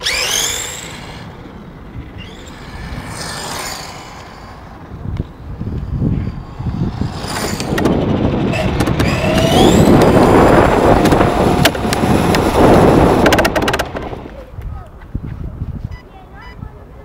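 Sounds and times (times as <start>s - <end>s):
electric motor whining: 0.0s - 14.3s
tyres rumbling on rough surface: 0.0s - 15.2s.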